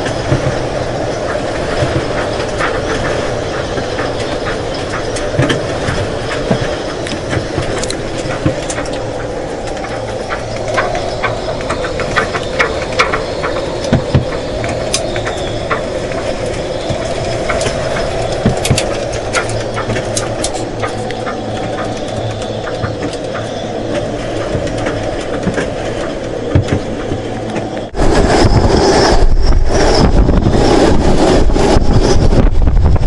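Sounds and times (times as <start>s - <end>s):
boat fittings rattling and clicking: 0.0s - 28.0s
high wind: 0.0s - 33.0s.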